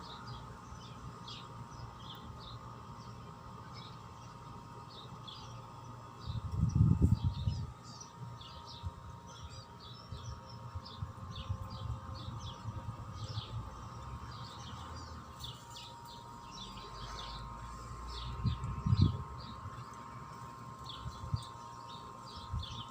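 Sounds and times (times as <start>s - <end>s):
faint hum: 0.0s - 22.9s
small birds chirping: 0.0s - 22.9s.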